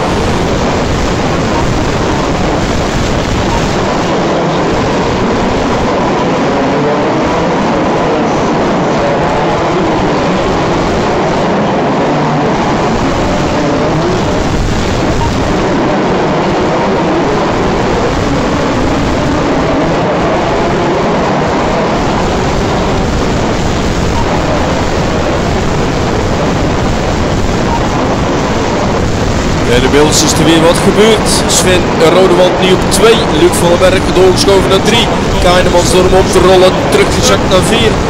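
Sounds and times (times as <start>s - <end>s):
steady wash of noise: 0.0s - 38.0s.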